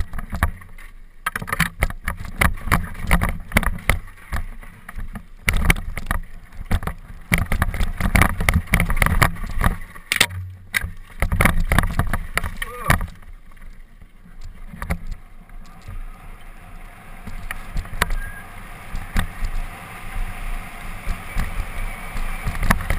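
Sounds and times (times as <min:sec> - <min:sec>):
bike knocking and rattling on stones: 0:00.0 - 0:22.9.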